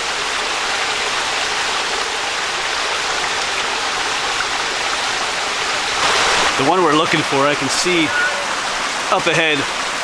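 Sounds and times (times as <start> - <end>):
waterfall splashing over rocks: 0.0 - 10.0.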